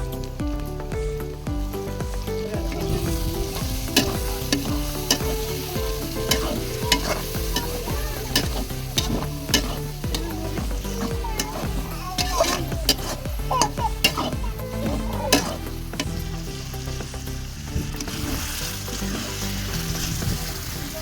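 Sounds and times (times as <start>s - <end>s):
chicken sizzling in a pot: 1.6s - 21.0s.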